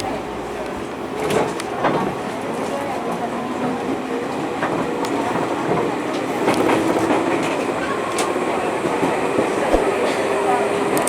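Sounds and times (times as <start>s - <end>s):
train traction motors humming: 0.0s - 11.0s
train wheels rumbling: 0.0s - 11.0s.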